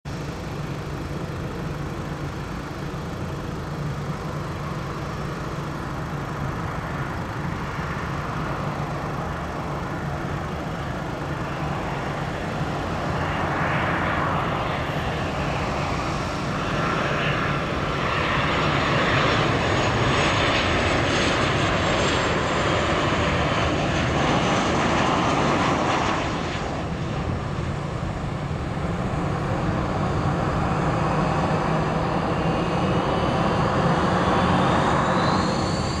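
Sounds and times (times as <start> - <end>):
jet engines on approach: 0.0 - 36.0
high engine whine: 0.1 - 36.0.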